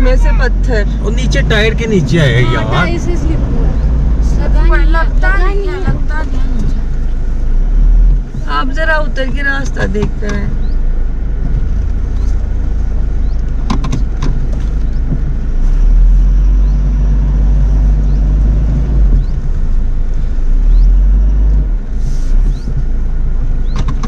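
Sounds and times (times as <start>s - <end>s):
car engine under load: 0.0s - 24.0s.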